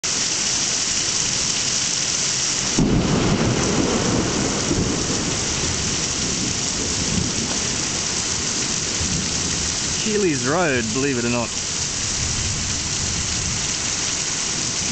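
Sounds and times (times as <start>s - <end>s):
torrential rain hissing: 0.0s - 14.9s
thunder rumbling: 2.8s - 14.9s.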